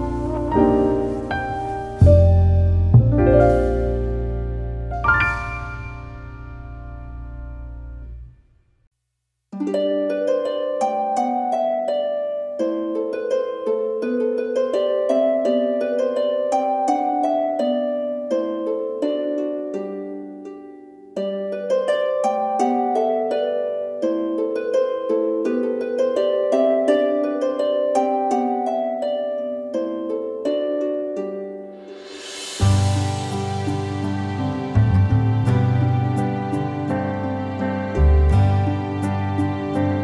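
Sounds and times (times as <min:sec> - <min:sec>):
harp arpeggios: 0:00.0 - 0:08.3, 0:09.6 - 0:40.0.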